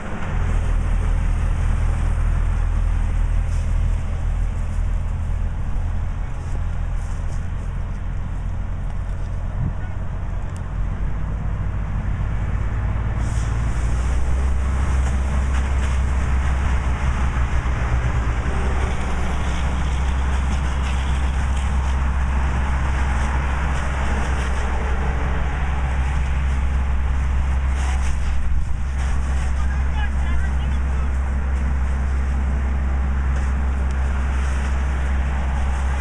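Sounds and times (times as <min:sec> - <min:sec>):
heavy vehicle engines rumbling: 0:00.0 - 0:36.0.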